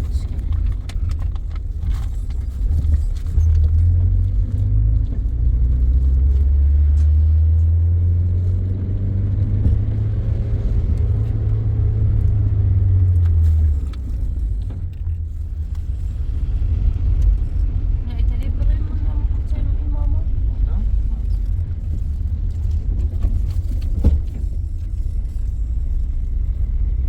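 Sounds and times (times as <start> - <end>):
car road rumble from inside: 0.0 - 27.0.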